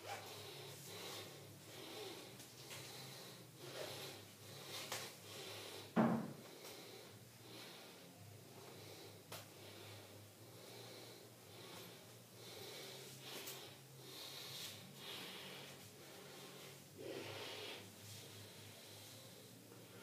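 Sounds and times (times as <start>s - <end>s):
person breathing softly: 0.1s - 20.0s.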